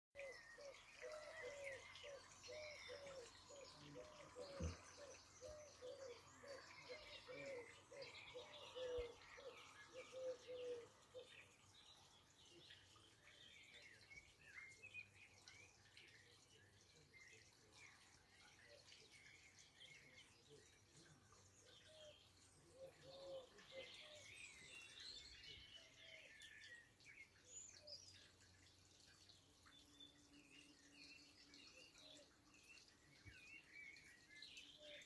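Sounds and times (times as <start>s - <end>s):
birds chirping and twittering: 0.2s - 35.0s.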